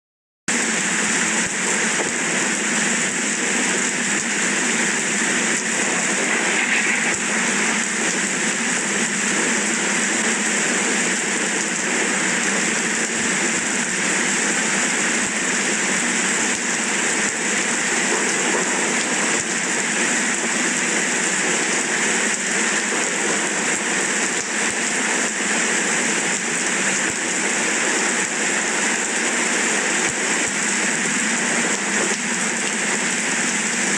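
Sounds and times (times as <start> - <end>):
steady rain falling: 0.5 - 33.9.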